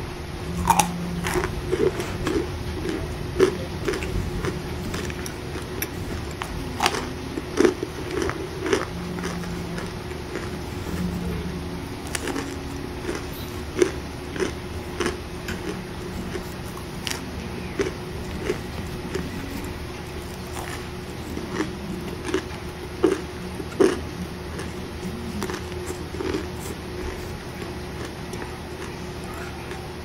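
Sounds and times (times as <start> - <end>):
teeth crunching cornstarch: 0.6 - 11.2, 12.0 - 29.9.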